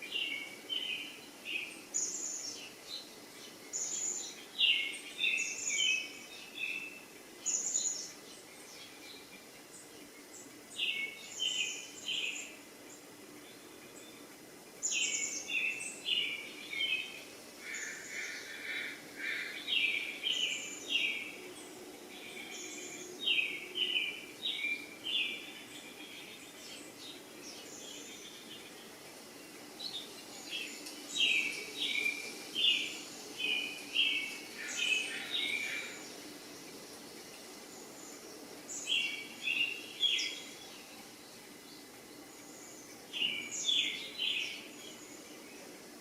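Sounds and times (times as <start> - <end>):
bird chirping: 0.0 - 45.8
faint background noise: 0.0 - 46.0.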